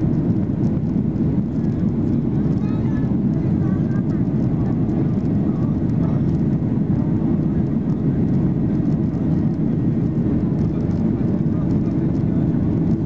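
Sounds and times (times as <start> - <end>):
airplane cabin engine rush: 0.0 - 13.0.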